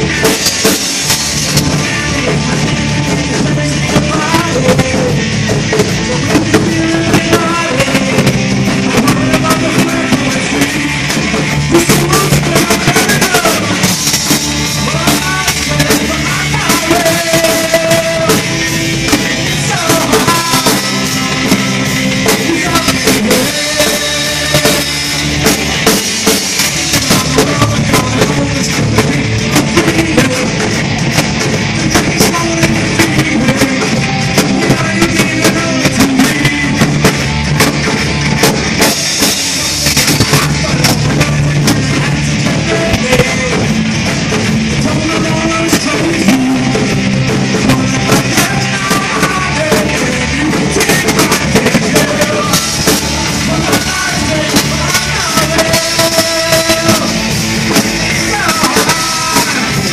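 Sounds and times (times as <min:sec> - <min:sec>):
drum kit: 0:00.0 - 0:59.9
electric guitar: 0:00.0 - 0:59.9
keyboard: 0:00.0 - 0:59.9.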